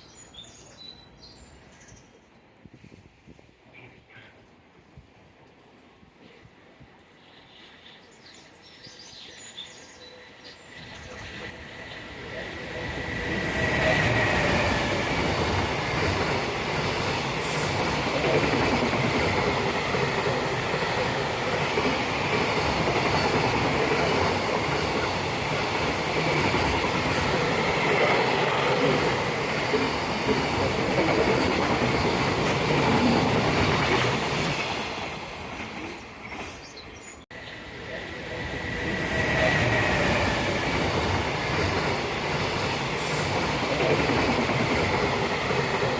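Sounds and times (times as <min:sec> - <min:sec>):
electric train running on rails: 0:04.6 - 0:45.9.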